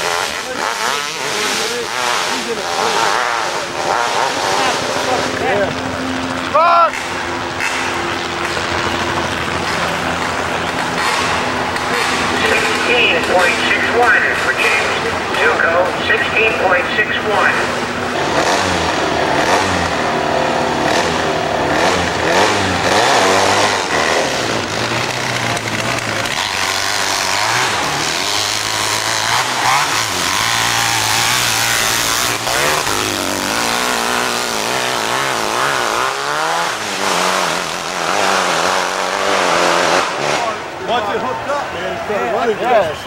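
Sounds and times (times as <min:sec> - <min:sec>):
motorcycle engine running hard: 0:00.0 - 0:43.0.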